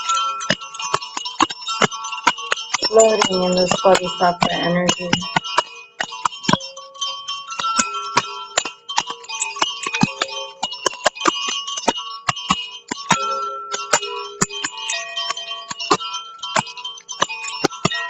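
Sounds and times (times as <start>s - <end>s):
chimes ringing: 0.0s - 18.0s.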